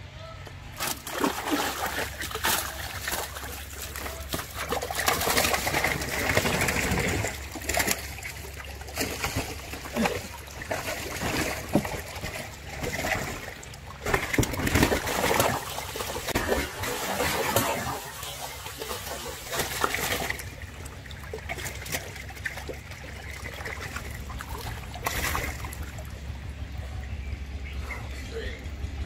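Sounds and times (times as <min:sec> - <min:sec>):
water splashing and sloshing: 0:00.5 - 0:29.0.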